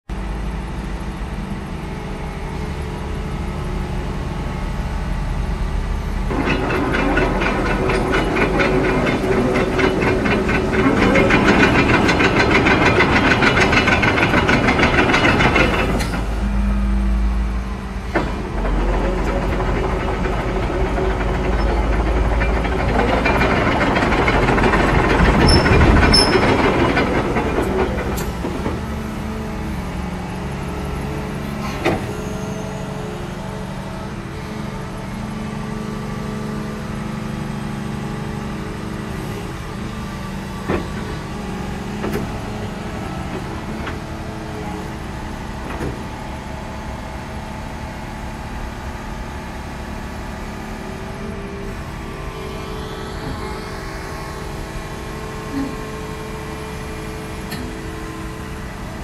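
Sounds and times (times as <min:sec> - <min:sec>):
excavator diesel engine running: 0:00.1 - 0:59.0.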